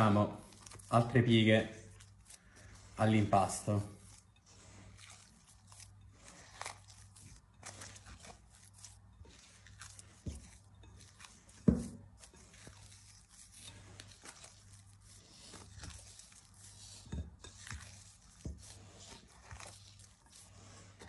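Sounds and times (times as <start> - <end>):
hands squelching wet dough: 0.0 - 21.0.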